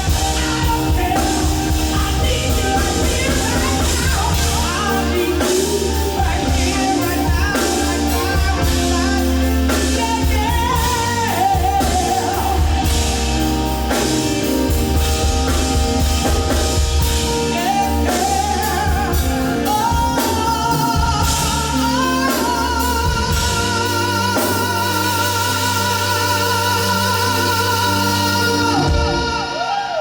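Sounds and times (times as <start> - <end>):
person singing wordless vocal: 0.0 - 16.1, 16.8 - 30.0
live band playing: 0.0 - 30.0.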